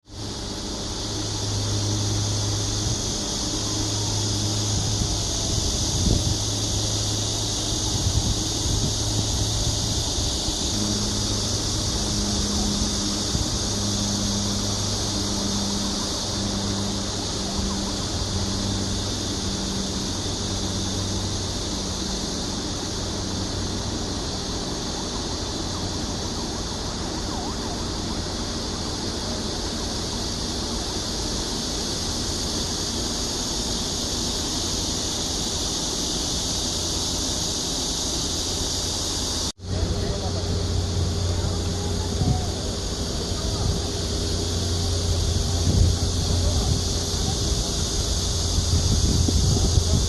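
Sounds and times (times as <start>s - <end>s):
aircraft engine hum: 0.0s - 50.0s
wind rushing on microphone: 0.1s - 33.3s, 39.1s - 50.0s.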